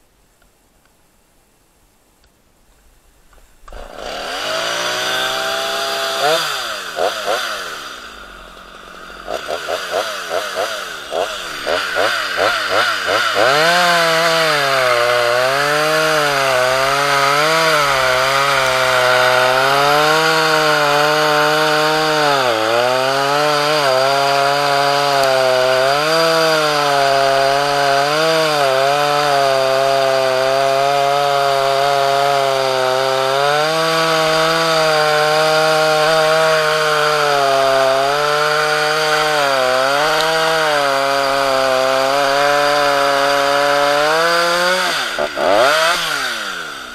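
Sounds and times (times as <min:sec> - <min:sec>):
chainsaw cutting branches: 0:03.6 - 0:46.9.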